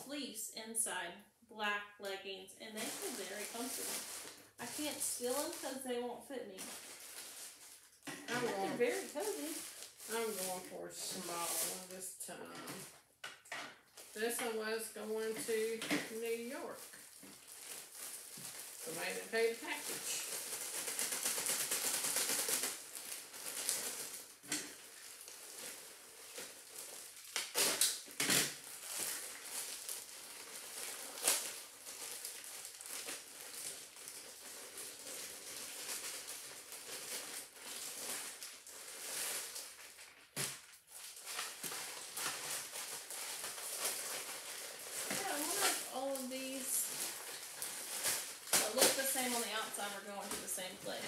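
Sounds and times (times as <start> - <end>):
plastic bags rustling and crinkling: 1.6 - 51.0
plastic crackles: 2.7 - 51.0.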